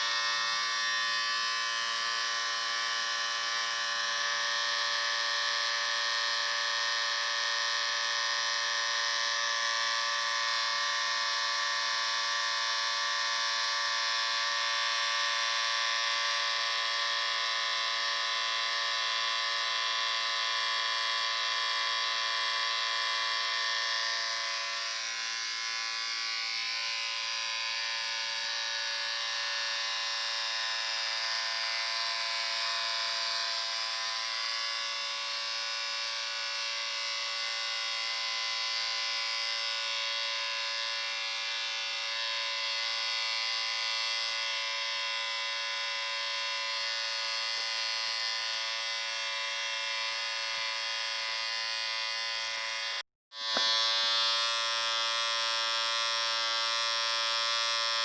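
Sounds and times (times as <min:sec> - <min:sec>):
electric shaver buzzing: 0:00.0 - 0:58.0.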